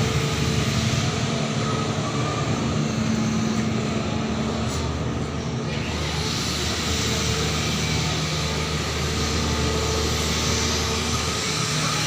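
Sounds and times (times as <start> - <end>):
rushing traffic noise: 0.0 - 12.0.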